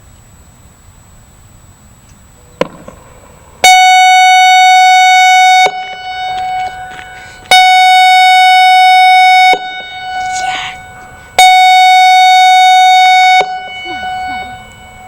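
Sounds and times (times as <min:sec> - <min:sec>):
warning siren alert tones: 0:02.3 - 0:15.0.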